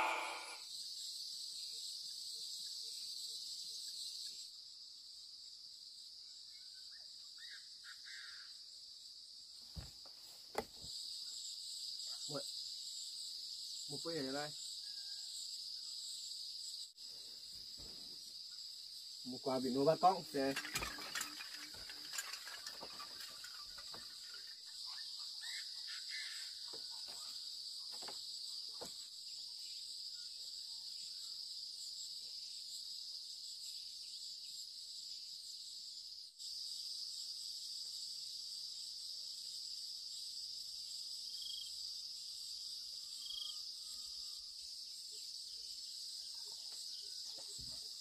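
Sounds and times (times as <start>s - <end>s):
crickets chirring: 0.0s - 48.0s.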